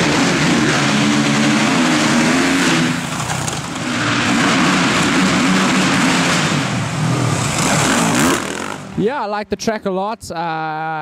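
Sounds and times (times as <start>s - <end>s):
motocross bike engine revving: 0.0s - 9.1s.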